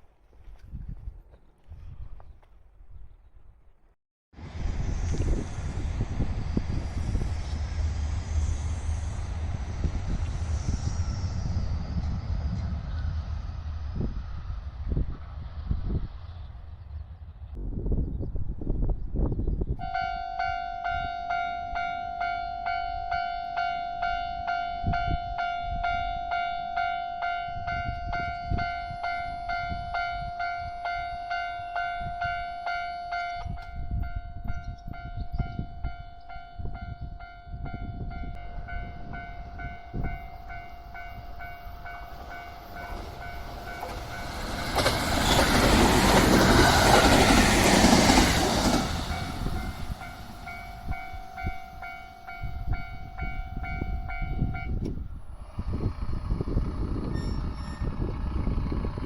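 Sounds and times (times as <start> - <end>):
train passing: 4.4 - 59.0.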